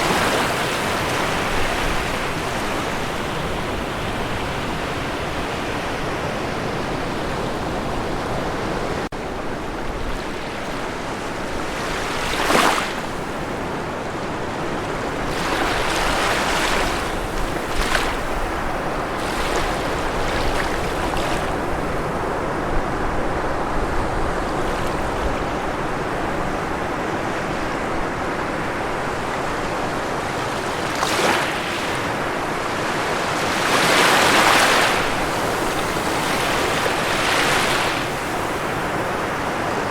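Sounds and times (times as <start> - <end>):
ocean waves washing ashore: 0.0 - 39.9
waves breaking: 0.0 - 39.9.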